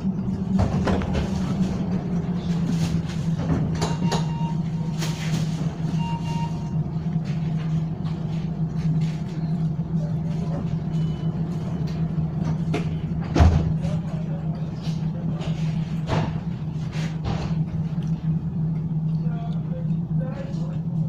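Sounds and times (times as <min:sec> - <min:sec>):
tram equipment humming: 0:00.0 - 0:21.0.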